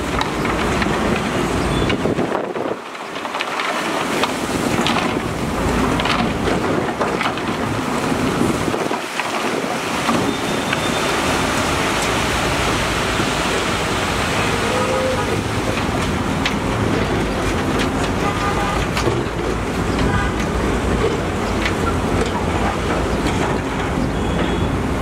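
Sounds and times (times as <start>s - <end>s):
knocks and scrapes: 0.0s - 11.0s, 14.4s - 24.1s
diesel machinery rumble: 0.0s - 25.0s.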